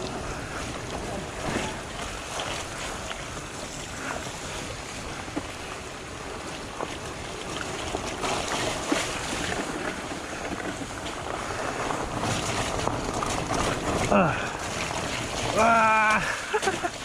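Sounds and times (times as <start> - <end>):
tyre rumble on dirt: 0.0 - 16.9.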